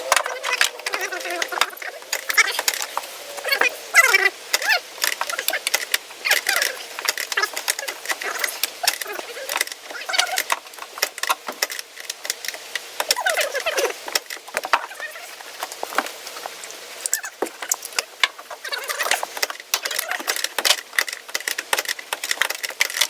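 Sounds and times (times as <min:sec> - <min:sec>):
creaking squeaks: 0:00.0 - 0:23.0.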